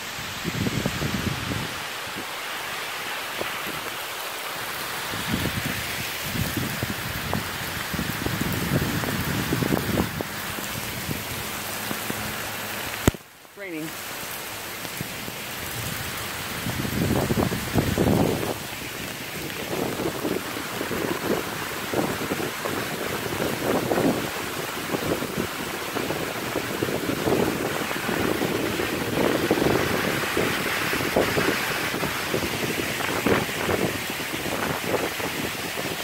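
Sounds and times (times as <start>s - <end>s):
strong wind gusting: 0.0s - 2.4s, 4.6s - 11.7s, 15.0s - 36.0s
heavy rain pouring: 0.0s - 36.0s.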